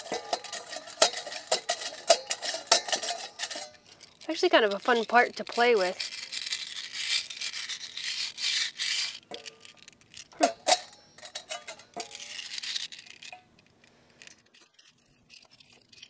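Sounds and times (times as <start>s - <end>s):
metal parts clinking against bowl: 0.0s - 16.0s
toothbrush scrubbing metal parts: 0.0s - 16.0s.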